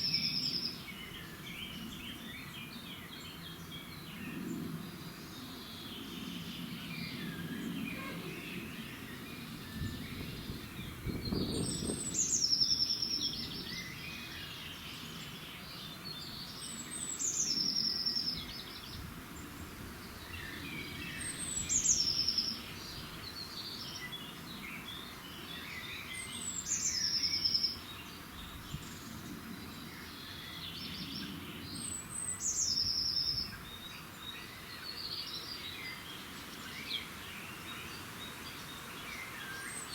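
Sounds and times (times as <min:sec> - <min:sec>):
songbird singing with trill: 0:00.0 - 0:04.4, 0:05.1 - 0:19.0, 0:20.0 - 0:39.9.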